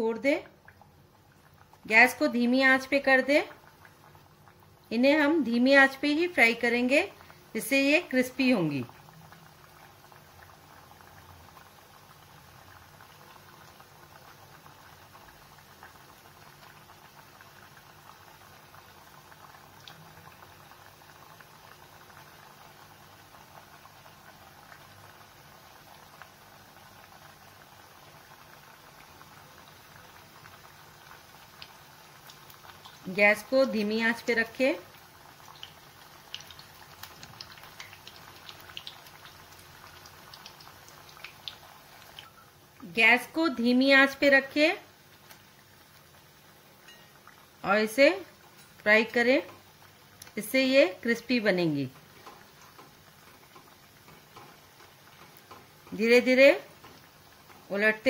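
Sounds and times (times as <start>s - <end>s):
dough sizzling in hot oil: 0.0s - 58.0s.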